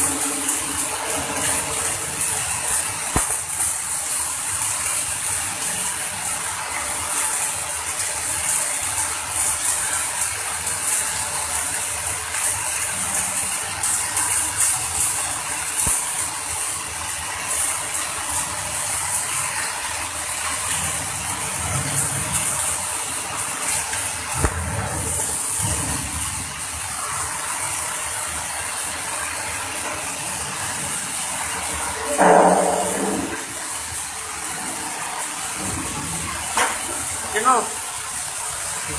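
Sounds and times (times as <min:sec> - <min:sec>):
arc welding crackle and sizzle: 0:00.0 - 0:38.9.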